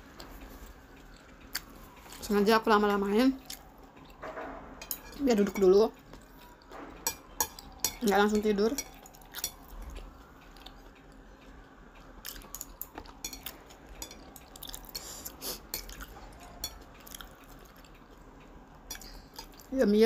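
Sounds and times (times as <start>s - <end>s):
chewing and wet mouth sounds: 0.0s - 4.2s, 4.9s - 19.8s.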